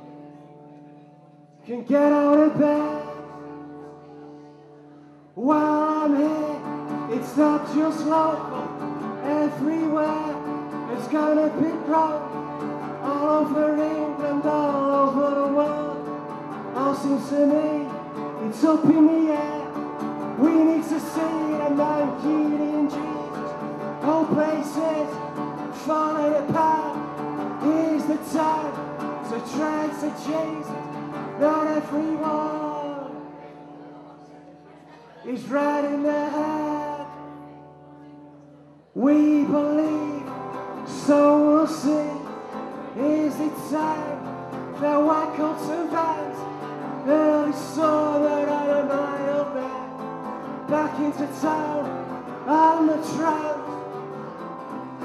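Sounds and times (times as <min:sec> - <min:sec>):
man singing: 0:00.0 - 0:04.6, 0:05.4 - 0:34.4, 0:35.0 - 0:38.2, 0:38.9 - 0:55.0
acoustic guitar strumming: 0:00.0 - 0:55.0.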